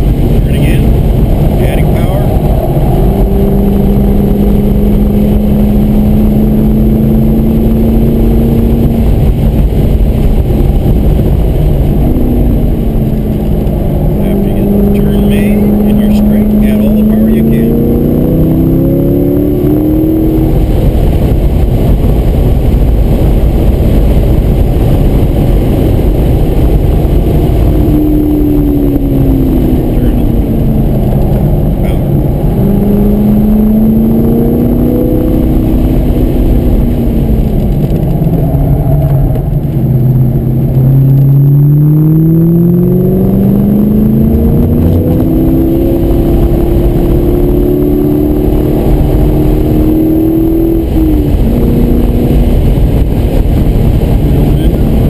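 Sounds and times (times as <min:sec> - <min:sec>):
car engine at speed: 0:00.0 - 0:55.0.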